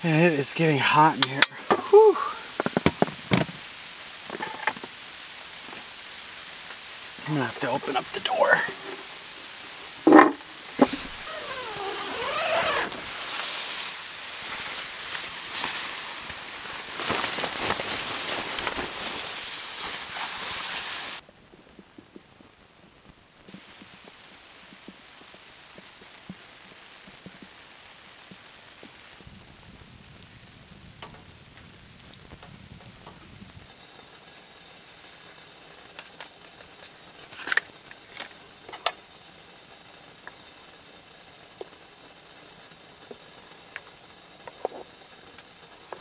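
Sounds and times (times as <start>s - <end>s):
freezing rain pattering on tent: 0.0s - 46.0s.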